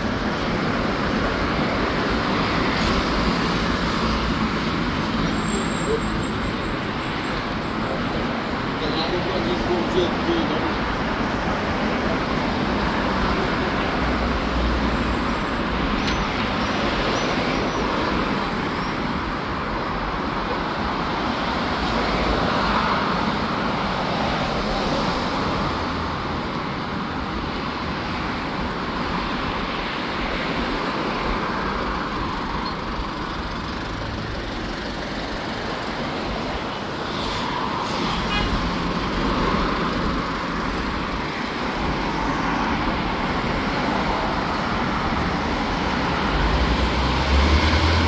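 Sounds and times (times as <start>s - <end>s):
road traffic passing: 0.0s - 48.0s.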